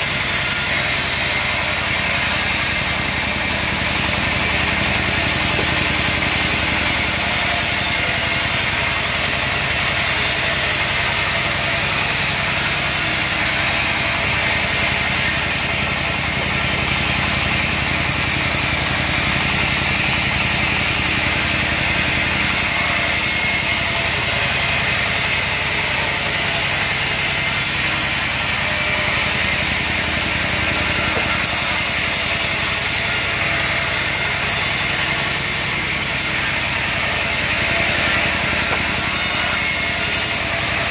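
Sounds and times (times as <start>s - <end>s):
band saw blade hissing through log: 0.0s - 17.9s, 21.6s - 40.9s.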